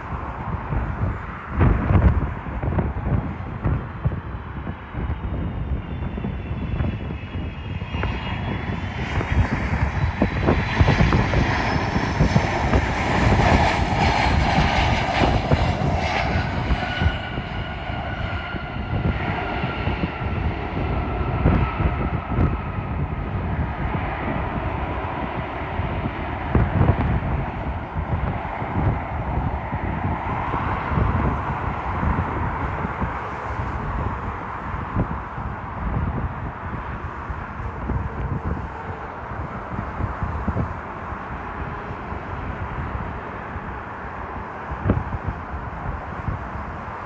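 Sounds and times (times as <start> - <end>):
airliner engine rush overhead: 0.0 - 47.0
jet engine whine: 0.0 - 47.0.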